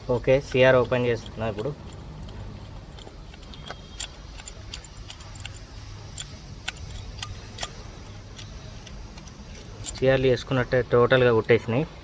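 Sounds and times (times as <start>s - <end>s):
low steady hum: 0.0s - 12.0s
hand tools tapping on metal: 0.2s - 10.5s.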